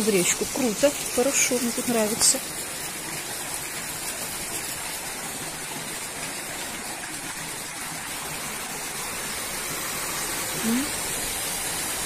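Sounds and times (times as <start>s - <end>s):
river water rushing over weir: 0.2s - 12.0s.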